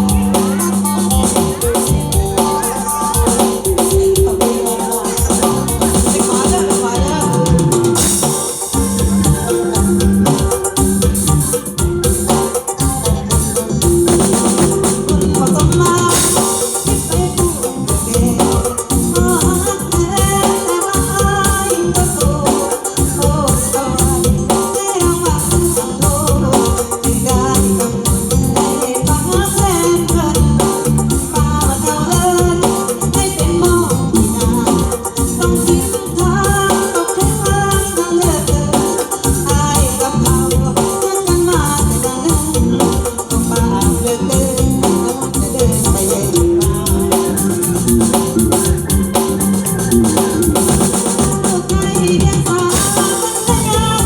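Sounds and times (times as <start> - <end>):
shaker percussion: 0.0 - 54.0
steady drum beat: 0.0 - 54.0
sustained melody line: 0.0 - 54.0.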